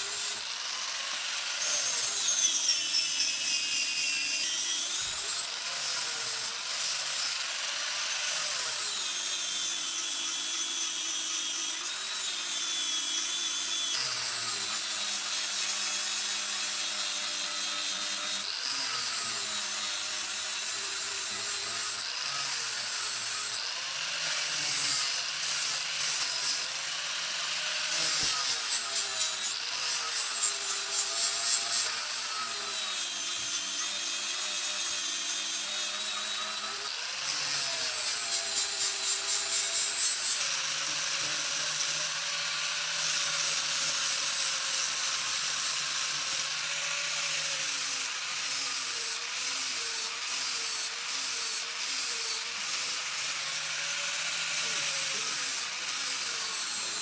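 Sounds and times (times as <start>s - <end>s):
power tool rubbing workpiece: 0.0s - 57.0s.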